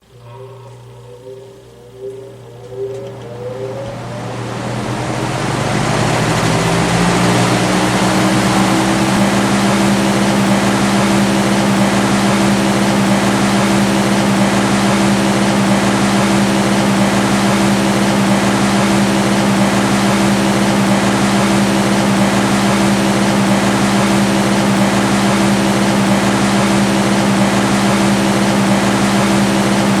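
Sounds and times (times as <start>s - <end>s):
electric fan motor hum: 0.0s - 30.0s.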